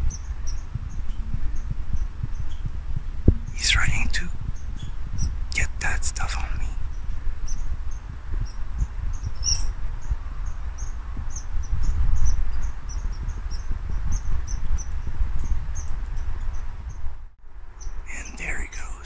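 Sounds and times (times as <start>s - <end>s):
squirrel chirping: 0.0s - 17.0s
low wind rumble on microphone: 0.0s - 19.0s.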